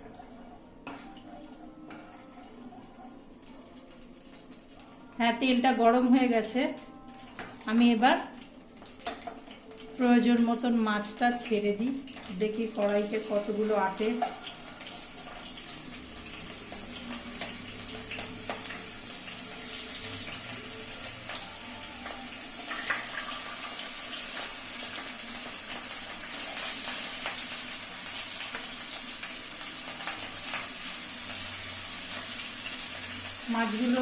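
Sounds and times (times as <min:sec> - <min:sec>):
fish sizzling in hot oil: 0:00.0 - 0:34.0.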